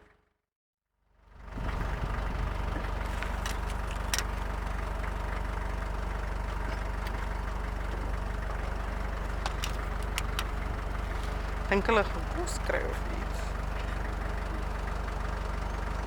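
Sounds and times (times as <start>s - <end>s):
vehicle engine idling: 1.2s - 16.0s.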